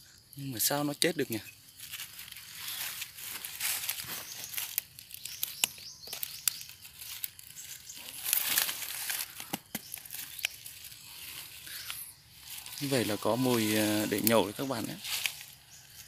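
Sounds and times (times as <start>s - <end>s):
dry leaves and twigs rustling: 0.1s - 16.0s.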